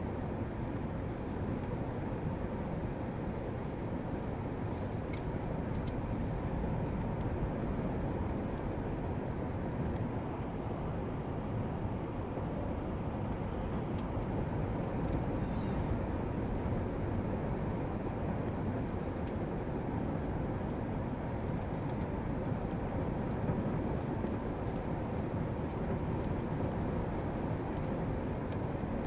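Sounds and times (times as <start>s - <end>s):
aircraft cabin engine rumble: 0.0s - 29.0s.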